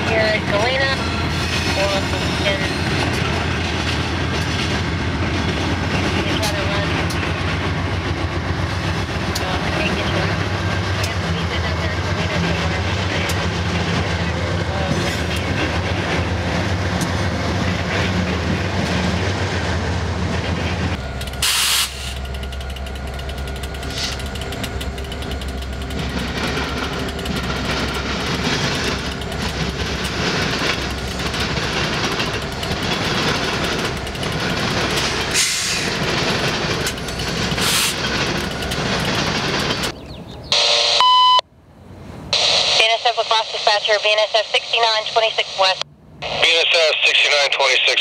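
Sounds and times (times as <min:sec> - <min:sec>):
freight cars rumbling on rails: 0:00.0 - 0:40.6
diesel locomotive engines: 0:00.0 - 0:48.0.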